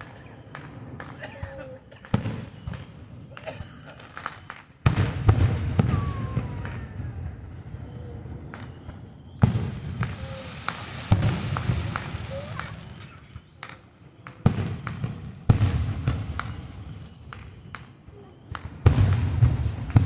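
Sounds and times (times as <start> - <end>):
fireworks booming: 0.0 - 20.0
fireworks popping and crackling: 0.0 - 20.0.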